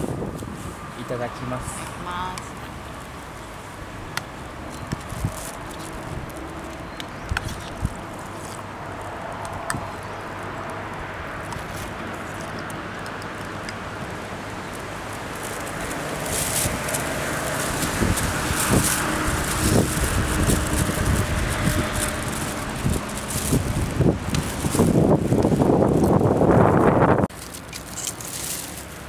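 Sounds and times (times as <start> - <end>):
wind buffeting microphone: 0.0 - 27.3
outdoor background noise: 0.0 - 29.0.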